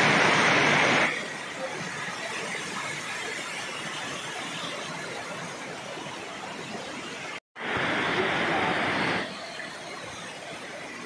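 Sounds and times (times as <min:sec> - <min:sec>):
water rushing down rocky cascade: 0:00.0 - 0:11.0.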